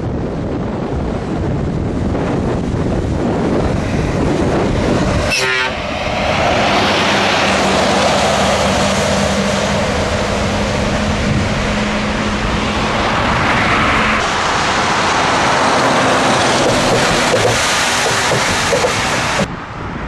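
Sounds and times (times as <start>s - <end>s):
truck engine droning: 0.0s - 19.6s
wind and road noise: 0.0s - 20.0s.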